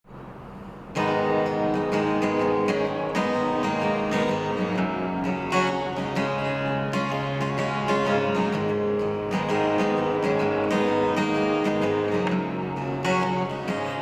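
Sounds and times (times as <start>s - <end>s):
acoustic guitar strumming: 0.1s - 14.0s.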